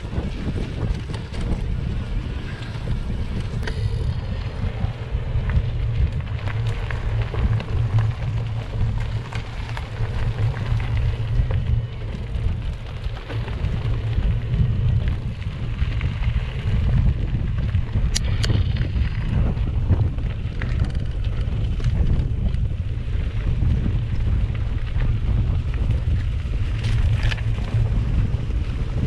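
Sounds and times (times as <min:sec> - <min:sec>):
bike tyres on bumpy ground: 0:00.0 - 0:29.0
wind on camera microphone: 0:00.0 - 0:29.0.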